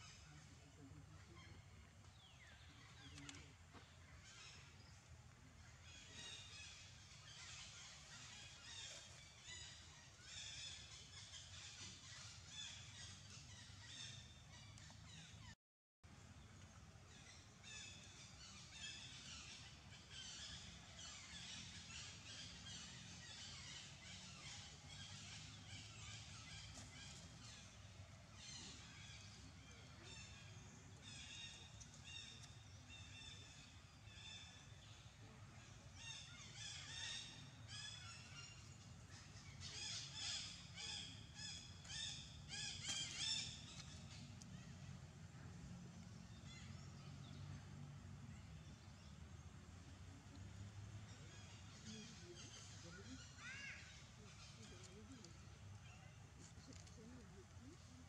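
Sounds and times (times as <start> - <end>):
low steady background hum: 0.0 - 58.0.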